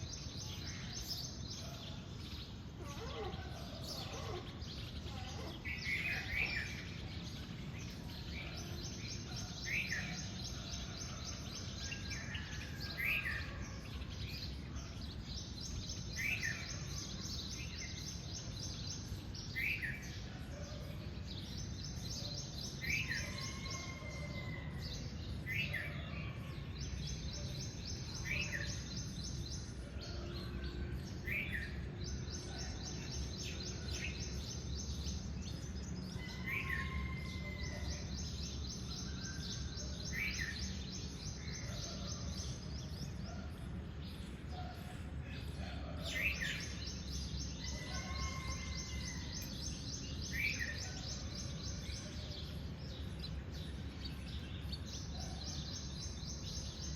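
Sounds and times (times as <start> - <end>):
bird chirping: 0.0 - 56.9.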